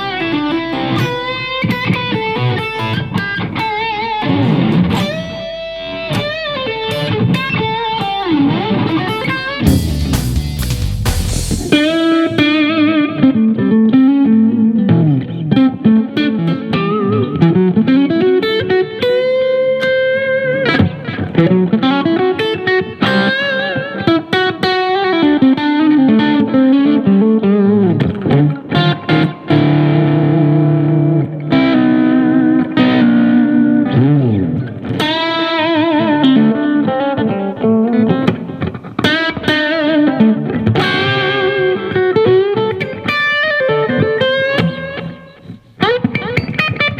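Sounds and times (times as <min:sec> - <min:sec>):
electric guitar blues-rock lead: 0:00.0 - 0:46.9.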